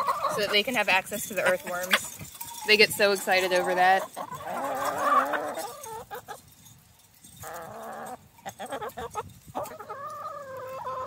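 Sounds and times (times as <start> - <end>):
hens calling: 0.0 - 6.4, 7.4 - 11.0.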